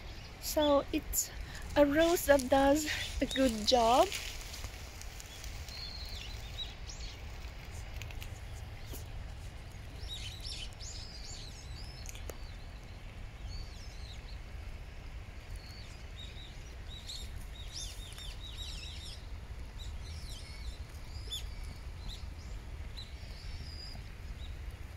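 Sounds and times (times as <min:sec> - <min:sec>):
songbirds chirping and twittering: 0:00.0 - 0:24.9
steady low rumble: 0:00.0 - 0:24.9.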